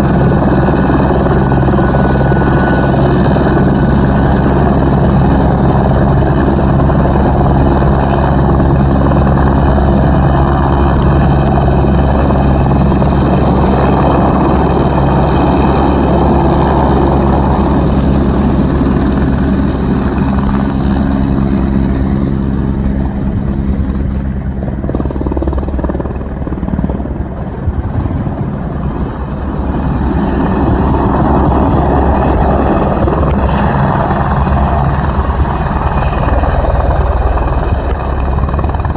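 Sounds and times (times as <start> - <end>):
helicopter rotor beating: 0.0 - 38.9.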